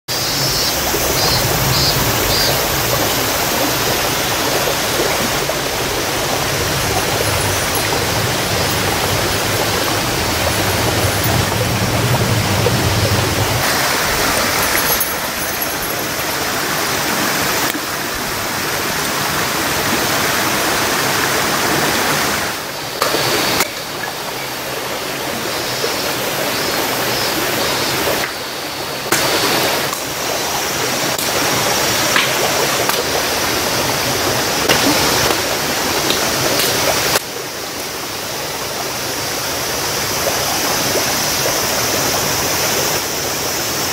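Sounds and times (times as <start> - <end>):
stream running over rocks: 0.1 - 43.9.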